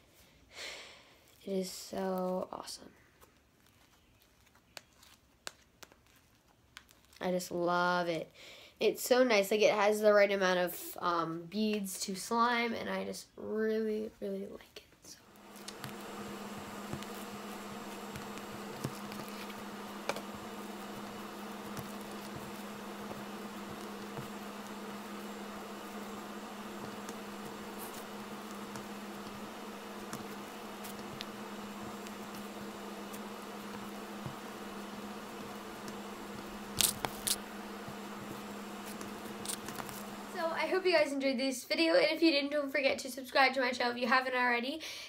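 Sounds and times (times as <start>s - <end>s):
low electrical hum: 6.6s - 45.0s.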